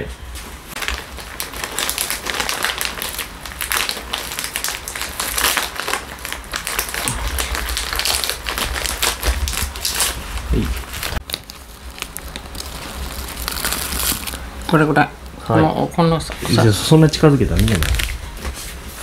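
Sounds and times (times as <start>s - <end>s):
plastic packaging crinkling: 0.7s - 15.4s, 16.5s - 19.0s.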